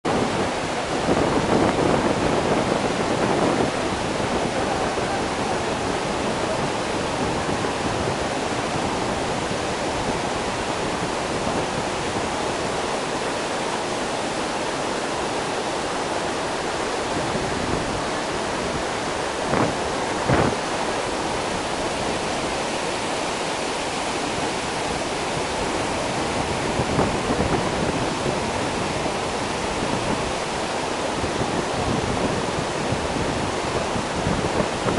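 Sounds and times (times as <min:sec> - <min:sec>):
rush of falling water: 0:00.0 - 0:34.9.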